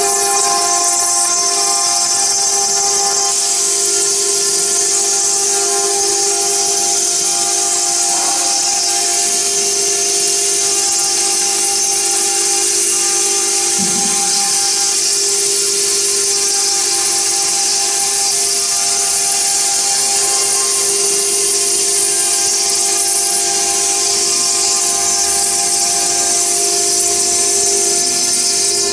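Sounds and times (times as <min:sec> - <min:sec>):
bit grinding wet stone hiss: 0:00.0 - 0:28.9
router spindle whine: 0:00.0 - 0:28.9.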